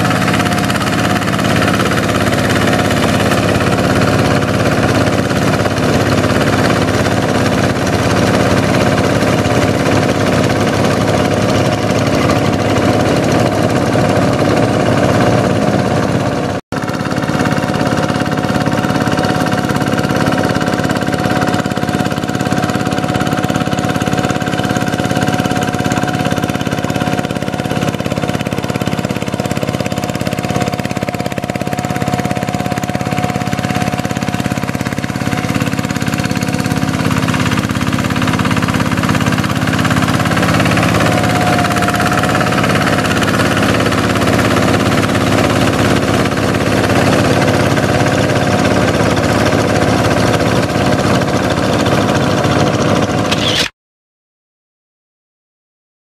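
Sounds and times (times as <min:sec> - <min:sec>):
diesel engine running under load: 0:00.0 - 0:53.7.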